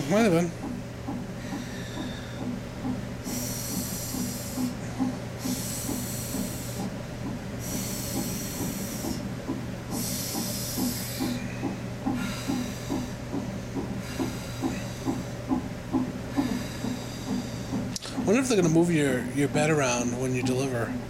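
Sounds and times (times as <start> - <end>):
rapid whooshing heartbeat pulse: 0.0 - 18.7
steady low hum: 0.0 - 21.0.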